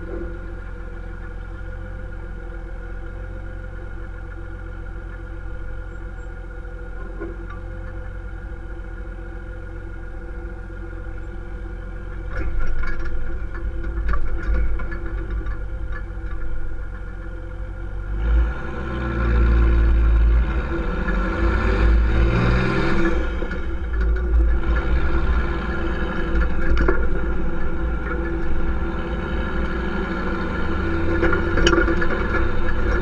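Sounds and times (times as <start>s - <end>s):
diesel engine idling and accelerating: 0.0s - 33.0s.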